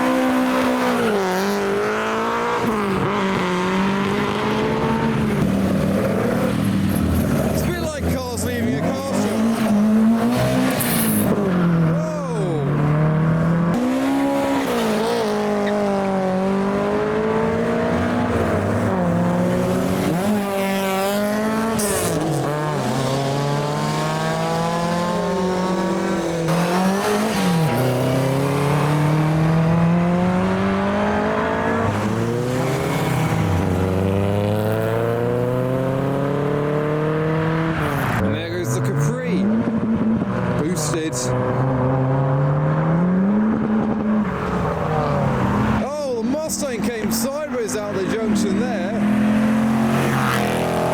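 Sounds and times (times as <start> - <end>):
car engines revving and pulling away: 0.0 - 50.9.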